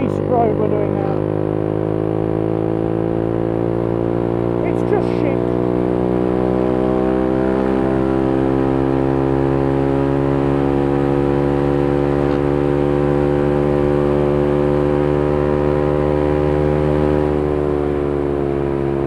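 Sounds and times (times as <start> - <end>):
motorcycle engine running hard: 0.0 - 19.0.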